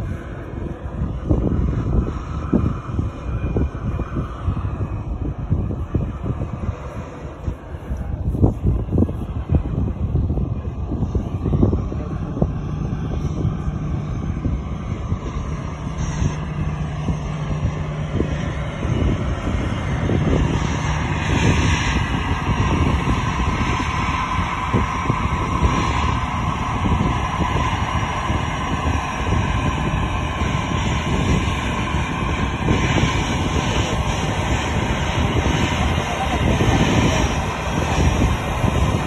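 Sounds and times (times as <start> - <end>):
jet engines taxiing: 0.0 - 39.0.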